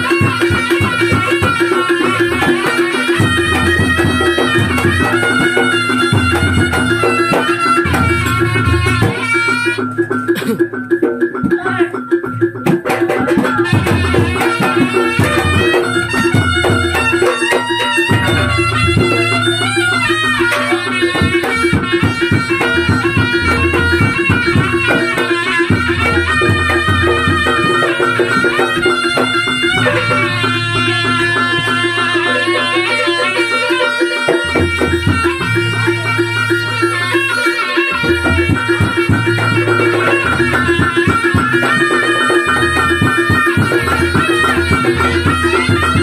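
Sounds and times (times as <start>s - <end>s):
hand drum strokes: 0.0s - 46.0s
reedy shawm melody: 0.0s - 46.0s.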